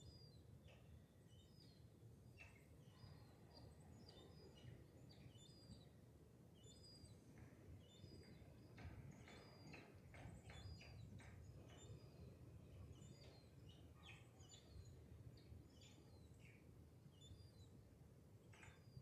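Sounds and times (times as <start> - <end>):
faint high bird chirps: 0.0 - 6.0, 6.6 - 17.8, 18.5 - 19.0.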